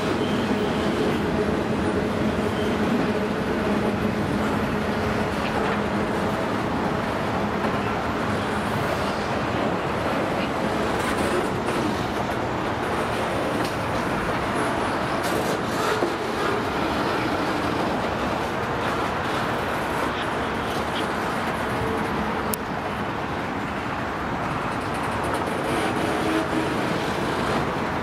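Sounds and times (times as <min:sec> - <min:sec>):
steel wheels rolling on rail: 0:00.0 - 0:28.0.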